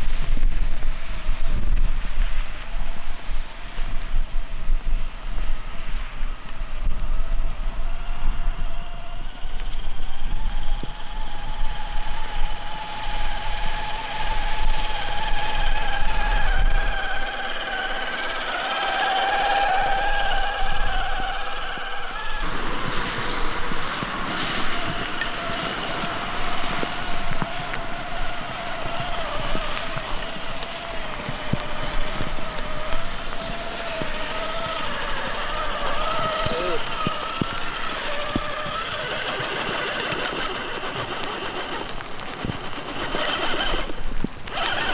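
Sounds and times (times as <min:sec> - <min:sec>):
toy car motor whining: 0:07.0 - 0:44.9.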